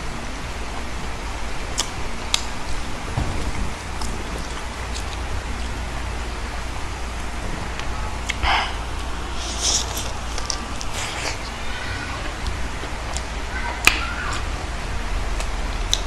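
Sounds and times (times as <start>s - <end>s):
steady hiss: 0.0s - 16.0s
crunching and smacking while eating: 1.6s - 16.0s.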